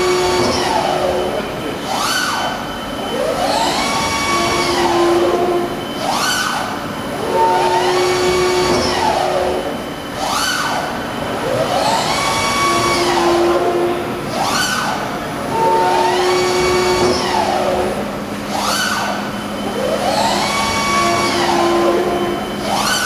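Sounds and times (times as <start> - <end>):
servo drives whining: 0.0 - 23.0.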